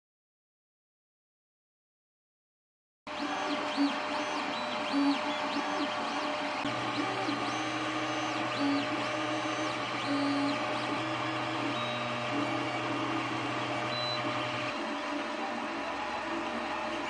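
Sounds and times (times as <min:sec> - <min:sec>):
stepper motors whining: 0:03.1 - 0:17.0.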